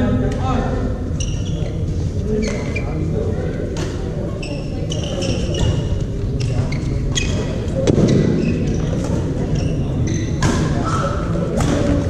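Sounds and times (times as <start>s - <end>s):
background din of hall: 0.0s - 12.0s
shoes squeaking on court: 1.1s - 3.0s, 3.8s - 12.0s.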